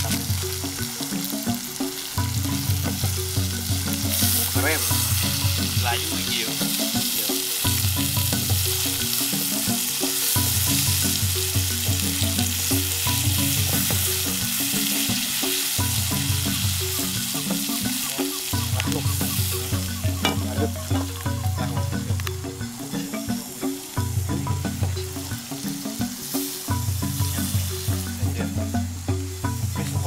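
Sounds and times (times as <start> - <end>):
background music with beat: 0.0 - 30.0
greens sizzling in a wok: 0.0 - 30.0.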